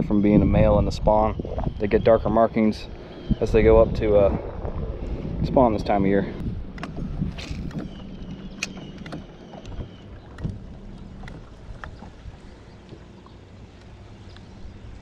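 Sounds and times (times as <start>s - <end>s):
low steady rumble: 0.0s - 15.0s
water noise: 0.0s - 15.0s
wind: 0.0s - 15.0s.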